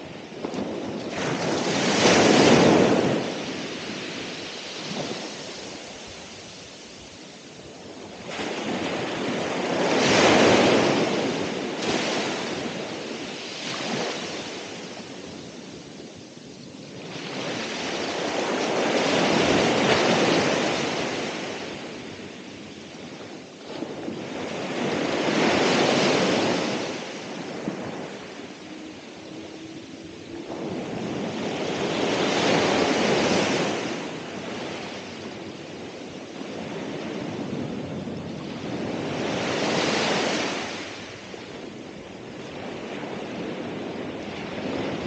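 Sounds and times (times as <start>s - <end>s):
ocean waves breaking: 0.0s - 45.0s.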